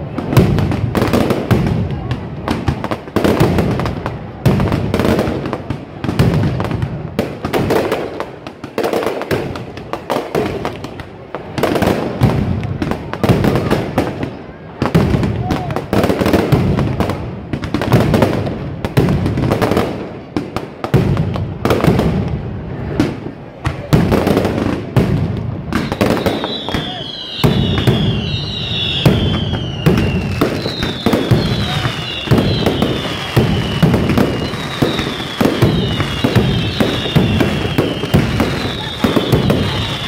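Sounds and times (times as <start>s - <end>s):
firecracker bangs: 0.0s - 40.0s
whistling fireworks: 0.0s - 40.0s.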